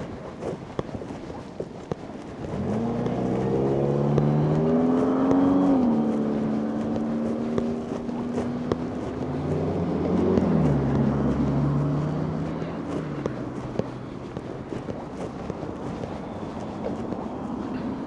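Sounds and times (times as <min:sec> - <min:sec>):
vehicle engine accelerating: 0:02.3 - 0:18.0.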